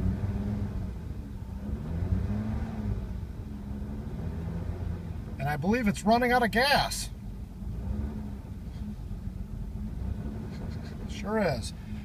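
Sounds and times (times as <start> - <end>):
car engine running unevenly: 0.0 - 12.0.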